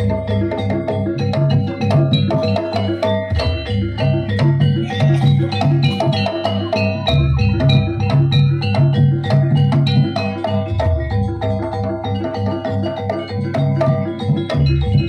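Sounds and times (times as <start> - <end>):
drums: 0.0 - 15.0
pulsing low beat: 0.0 - 15.0
tuned metal percussion: 0.0 - 15.0.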